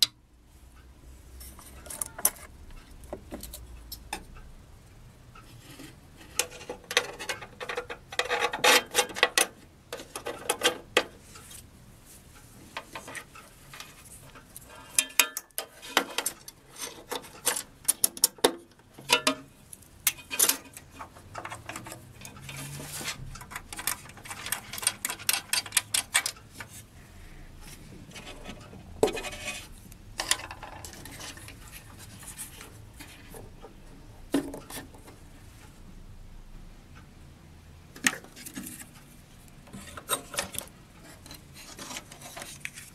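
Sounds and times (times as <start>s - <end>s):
metal parts clicking and scraping: 1.4s - 4.3s, 5.4s - 11.7s, 12.6s - 27.0s, 27.6s - 35.2s, 38.0s - 42.9s.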